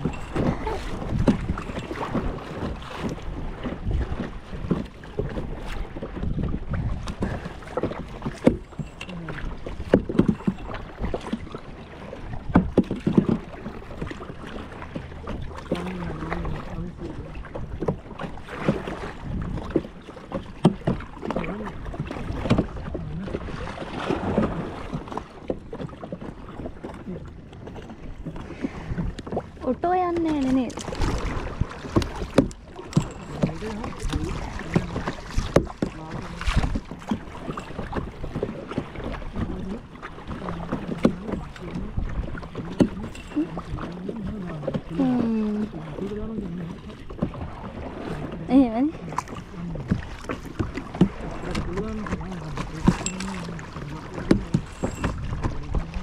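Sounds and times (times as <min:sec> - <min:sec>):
wind on microphone: 0:00.0 - 0:25.1, 0:26.5 - 0:56.0
paddle knocks: 0:00.0 - 0:56.0
paddle splashing in water: 0:00.0 - 0:56.0.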